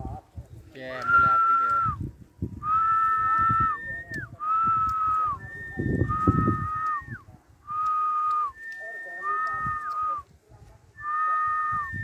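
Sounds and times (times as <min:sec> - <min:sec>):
wind rumble on microphone: 0:00.0 - 0:12.0
long whistled notes: 0:01.0 - 0:02.0, 0:02.6 - 0:10.3, 0:11.0 - 0:12.0.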